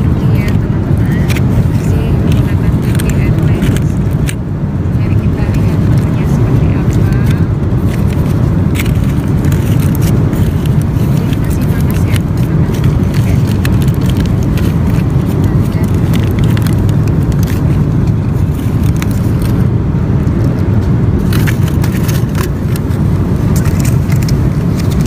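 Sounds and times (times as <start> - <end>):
aluminium foil crinkling: 0.0 - 4.4, 5.0 - 25.0
airliner cabin drone: 0.0 - 25.0.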